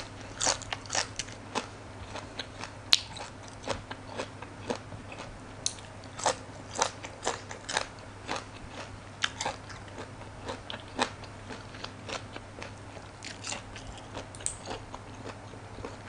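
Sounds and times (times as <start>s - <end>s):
crunchy vegetable chewing: 0.1s - 16.0s.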